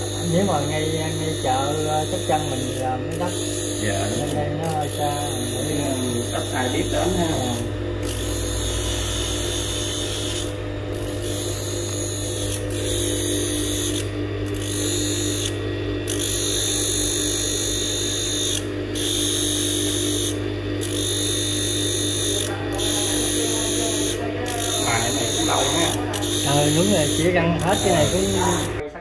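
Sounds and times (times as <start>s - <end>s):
grinder motor humming: 0.0s - 28.9s.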